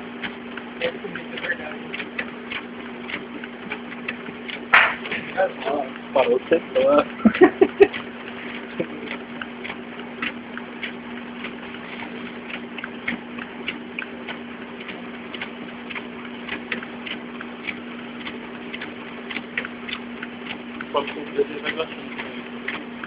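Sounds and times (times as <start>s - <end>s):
scanner feeding clicks: 0.0s - 23.0s
scanner motor hum: 0.0s - 23.0s.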